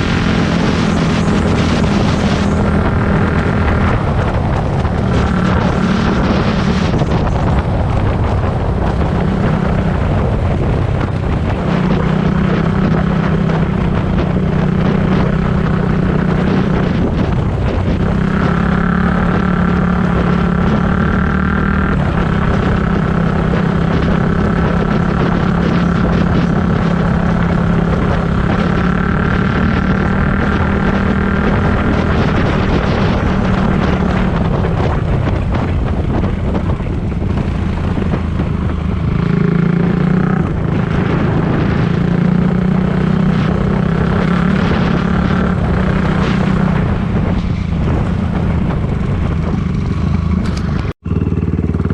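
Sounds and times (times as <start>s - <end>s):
dirt bike engine running: 0.0s - 51.9s
wind noise on microphone: 0.0s - 51.9s.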